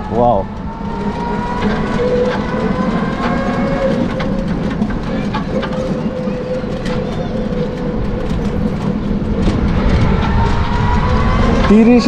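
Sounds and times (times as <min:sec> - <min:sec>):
body clicks and rattles: 0:00.0 - 0:12.0
road and wind rumble: 0:00.0 - 0:12.0.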